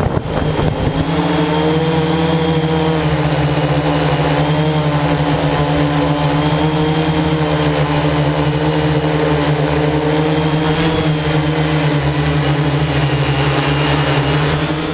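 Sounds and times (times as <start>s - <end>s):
drone propellers buzzing: 0.0s - 14.9s.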